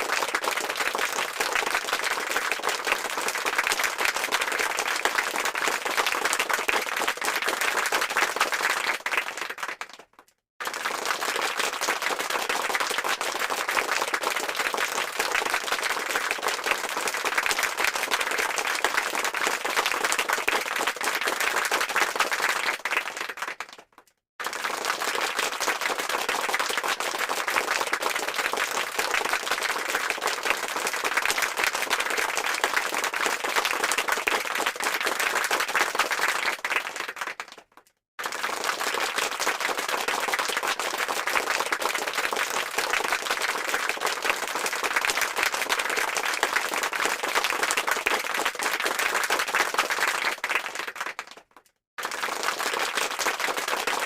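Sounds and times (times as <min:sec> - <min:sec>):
crowd applause: 0:00.0 - 0:37.6, 0:38.2 - 0:51.4, 0:52.0 - 0:54.0.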